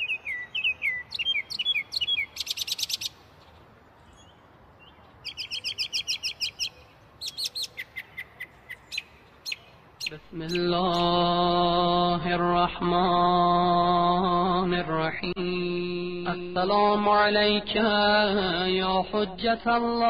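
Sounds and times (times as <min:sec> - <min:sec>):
songbirds singing: 0:00.0 - 0:15.6, 0:16.3 - 0:20.0.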